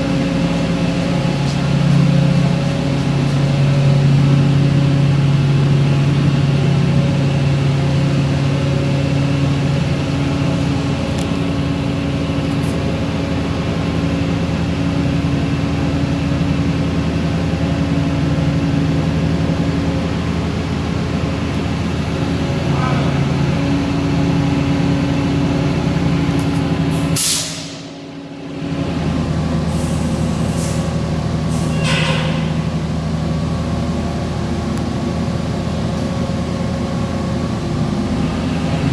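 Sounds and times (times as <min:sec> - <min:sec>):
furnace machine hum: 0:00.0 - 0:38.9.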